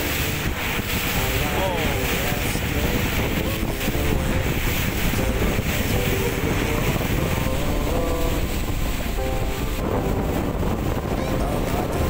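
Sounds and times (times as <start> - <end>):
boat engine: 0.0 - 12.0
water rushing: 0.0 - 12.0
wind buffeting microphone: 0.0 - 12.0.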